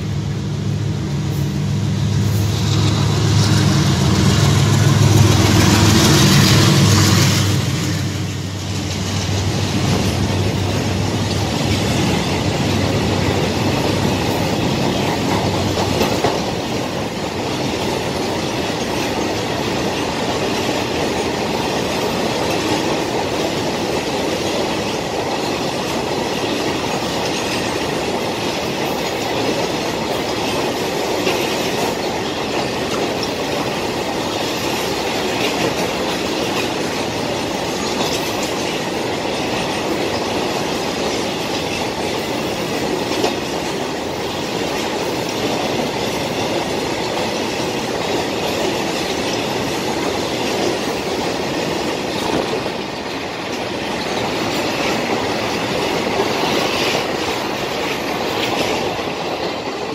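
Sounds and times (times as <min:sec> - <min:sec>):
diesel locomotive engine: 0:00.0 - 0:59.9
train wheel clatter: 0:00.0 - 0:59.9.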